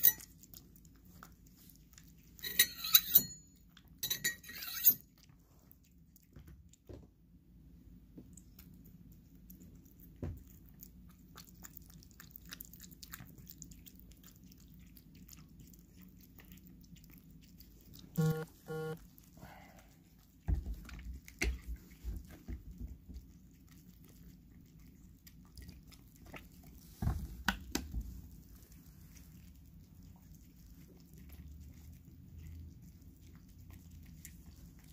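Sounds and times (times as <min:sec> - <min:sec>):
cat licking and chewing food: 0:00.0 - 0:34.9.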